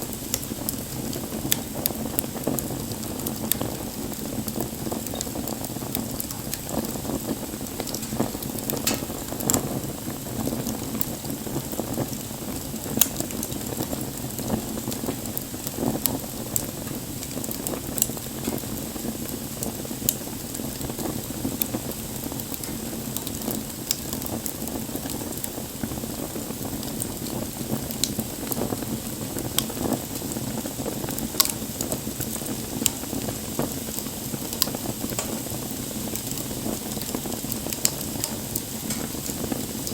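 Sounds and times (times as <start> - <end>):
burning wood crackling and popping: 0.0 - 39.9
fire hissing and rumbling: 0.0 - 39.9.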